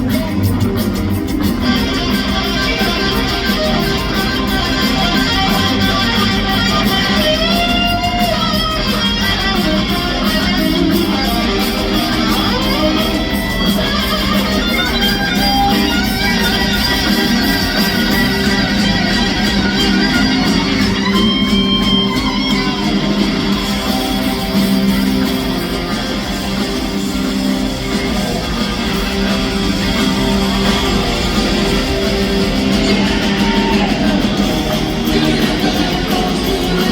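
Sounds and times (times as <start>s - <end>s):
electric guitar lead: 0.0s - 36.9s
live rock band playing: 0.0s - 36.9s.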